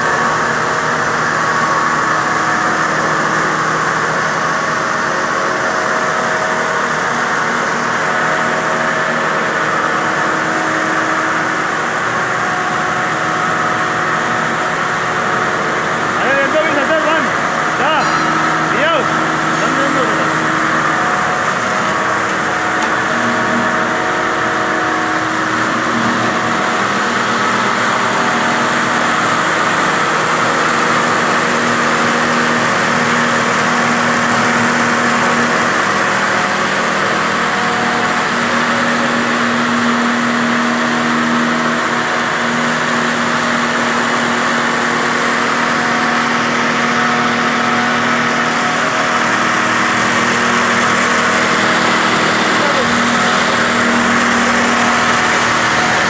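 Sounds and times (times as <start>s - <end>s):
grinding machinery drone: 0.0s - 56.0s.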